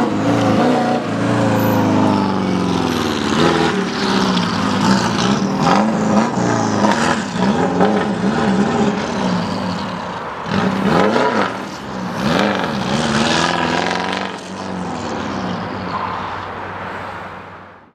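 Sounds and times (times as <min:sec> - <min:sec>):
race car engine revving: 0:00.0 - 0:15.9.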